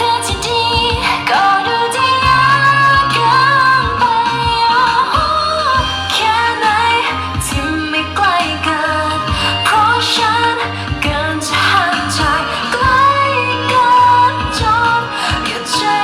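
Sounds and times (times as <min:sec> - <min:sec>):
pop song with woman singing: 0:00.0 - 0:16.0.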